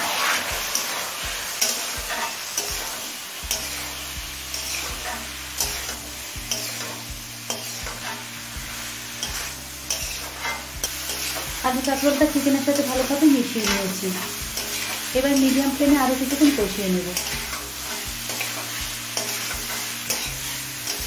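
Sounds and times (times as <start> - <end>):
masala sizzling: 0.0 - 21.0
spoon scraping a pan: 0.0 - 21.0.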